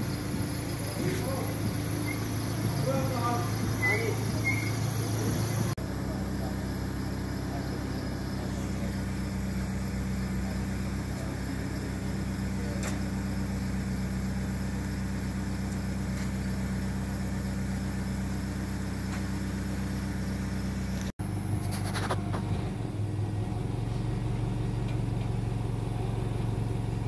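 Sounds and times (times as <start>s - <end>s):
van engine idling: 0.0s - 27.0s.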